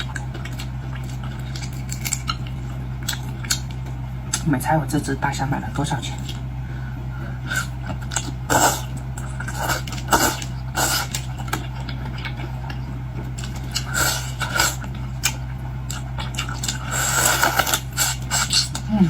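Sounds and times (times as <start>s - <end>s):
crunching and chewing seafood: 0.0s - 4.5s, 7.3s - 19.0s
steady low hum: 0.0s - 19.0s.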